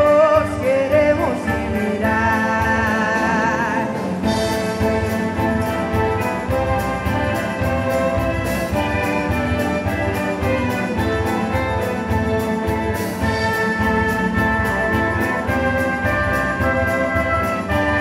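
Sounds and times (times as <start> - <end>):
brass melody: 0.0 - 18.0
drum kit beat: 0.0 - 18.0
strings: 0.0 - 18.0.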